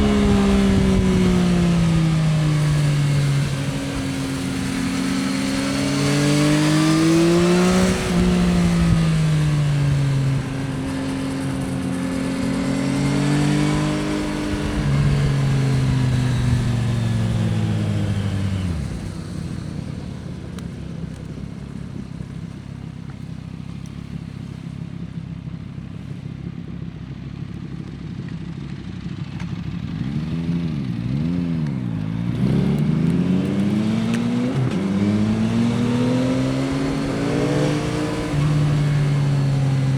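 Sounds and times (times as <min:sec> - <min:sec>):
motorcycle engine revving through gears: 0:00.0 - 0:24.8, 0:27.7 - 0:39.9.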